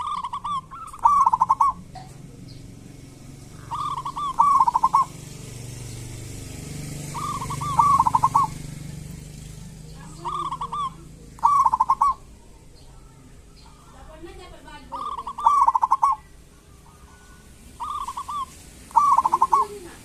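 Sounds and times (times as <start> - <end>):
dove calling: 0.0 - 20.0.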